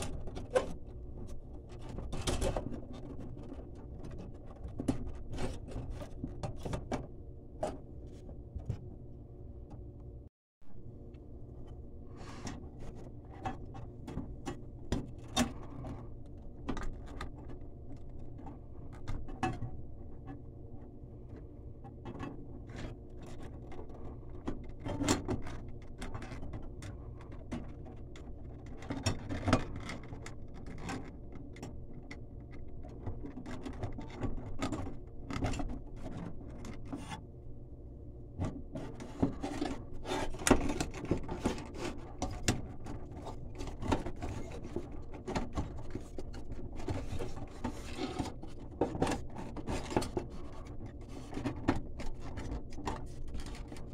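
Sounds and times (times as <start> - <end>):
wires and metal clicking and rubbing: 0.0 - 8.8, 12.4 - 37.3, 38.3 - 53.9.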